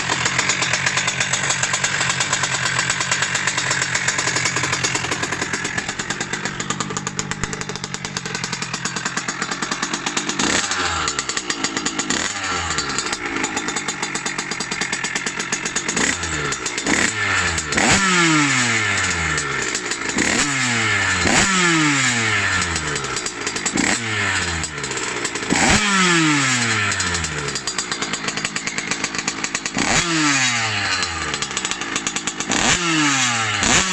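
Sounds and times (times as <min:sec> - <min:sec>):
two-stroke engine idling and revving: 0:00.0 - 0:33.9.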